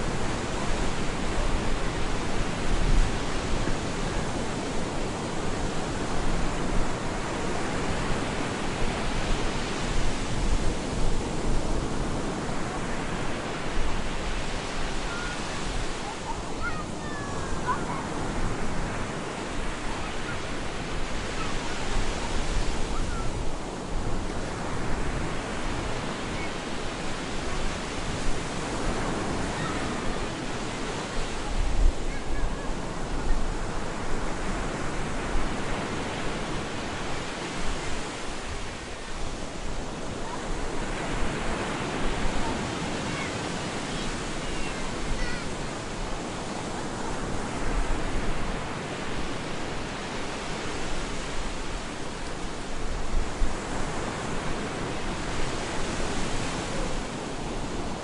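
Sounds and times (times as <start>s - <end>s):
surf waves breaking: 0.0s - 58.0s.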